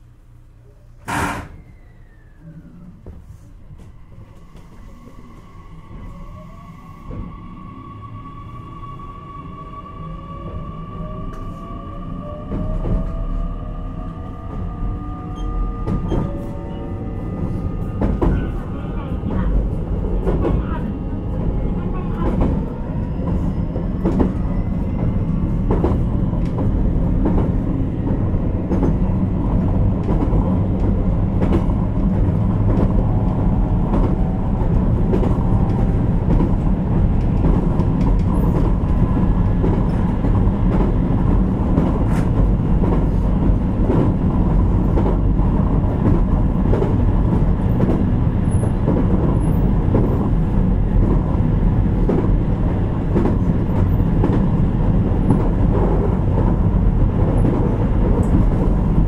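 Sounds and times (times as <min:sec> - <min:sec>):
train wheels rumbling on rail: 0:00.8 - 0:59.0.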